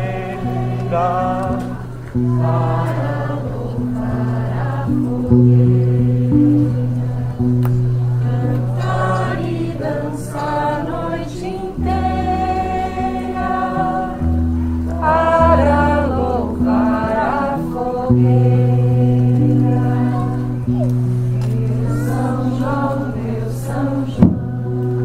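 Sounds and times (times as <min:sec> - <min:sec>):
group of voices singing: 0:00.0 - 0:25.0
held low instrumental notes: 0:00.0 - 0:25.0.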